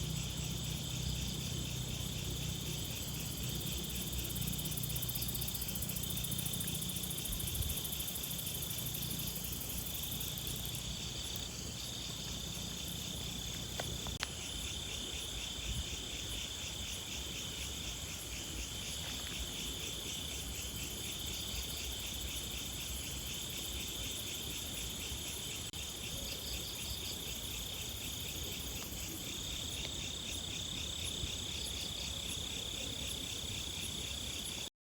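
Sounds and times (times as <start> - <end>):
insects chirping in pulses: 0.0 - 34.7
insects trilling: 0.0 - 34.7.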